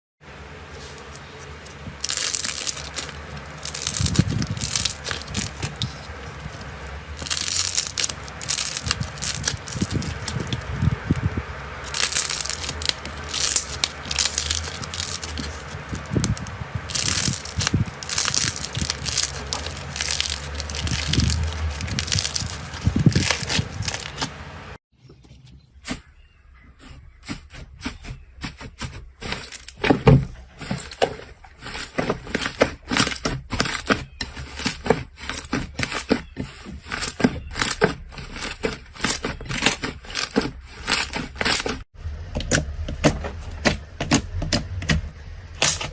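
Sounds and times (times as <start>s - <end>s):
slime crackling and crunching: 0.8s - 24.4s, 27.3s - 44.9s.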